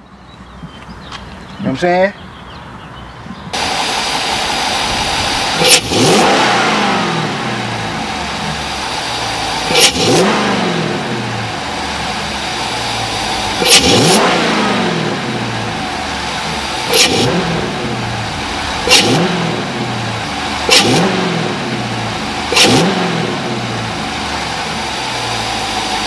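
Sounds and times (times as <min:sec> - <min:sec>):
car engine revving: 0:03.5 - 0:26.0.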